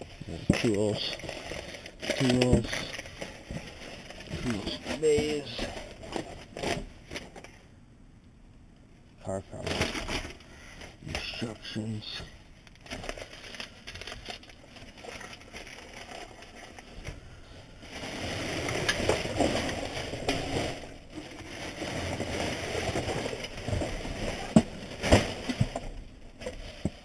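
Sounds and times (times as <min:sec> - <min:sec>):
plastic bags crackling and rustling: 0:00.0 - 0:07.6, 0:09.5 - 0:27.0.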